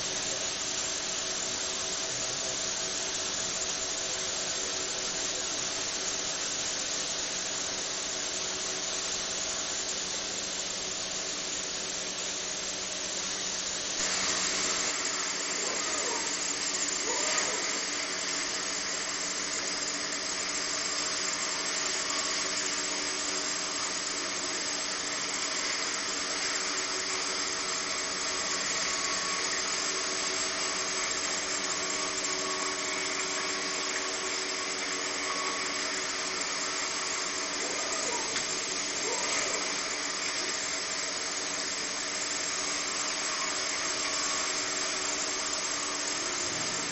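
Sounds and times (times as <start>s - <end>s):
stone cutting machine humming: 0.0s - 46.9s.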